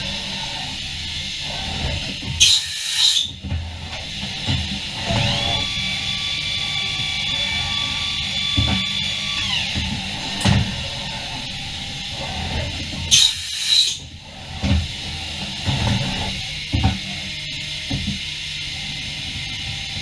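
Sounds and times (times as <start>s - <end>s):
machine spindle whine: 0.0s - 20.0s.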